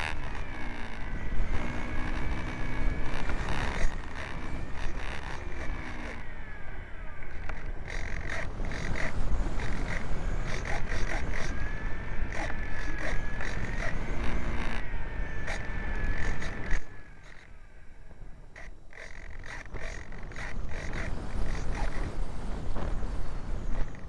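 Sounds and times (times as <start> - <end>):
electric motor whine of model plane: 0.0 - 24.0.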